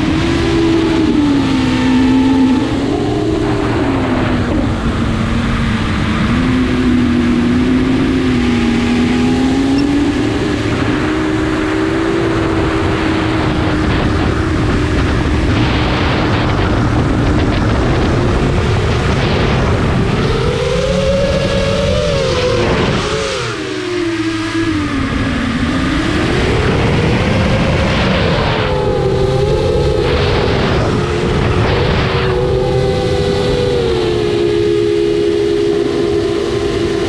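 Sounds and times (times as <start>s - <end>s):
drone motors whining: 0.0s - 37.0s
wind rushing on microphone: 0.0s - 37.0s.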